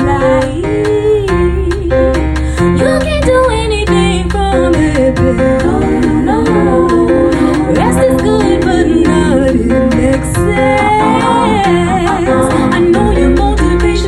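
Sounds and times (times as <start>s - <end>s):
instrumental accompaniment with beat: 0.0s - 14.0s
person singing long notes: 0.0s - 14.0s.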